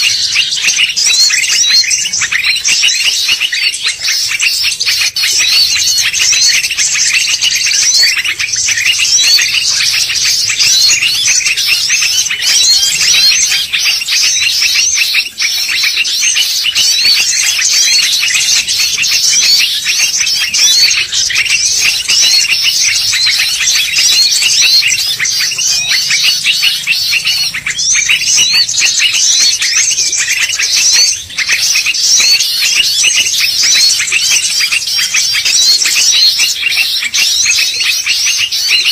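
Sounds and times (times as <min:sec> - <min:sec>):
bird chirps and twitters: 0:00.0 - 0:38.9.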